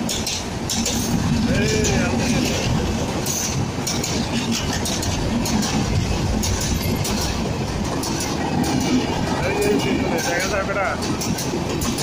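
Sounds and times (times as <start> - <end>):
rail joint clacks: 0.0 - 12.0
train wheels rumbling on rail: 0.0 - 12.0.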